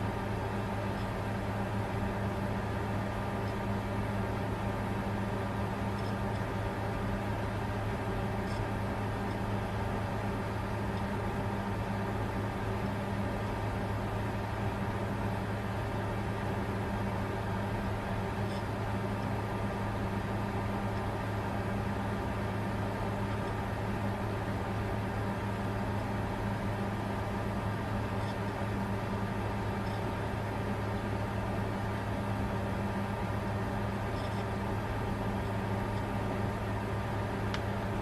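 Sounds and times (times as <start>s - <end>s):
computer cooling fans humming: 0.0s - 38.0s.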